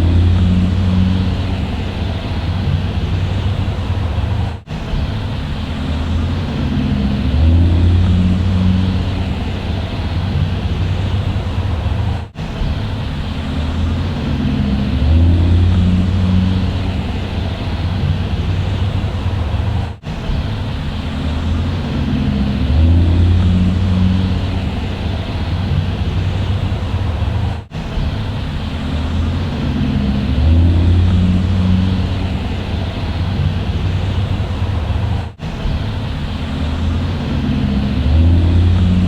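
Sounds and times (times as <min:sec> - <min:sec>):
bus engine droning: 0:00.0 - 0:39.0.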